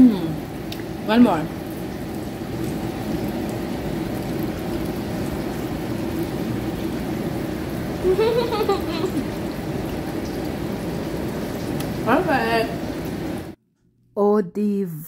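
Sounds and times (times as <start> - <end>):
oil sizzling in a pan: 0.1 - 13.6.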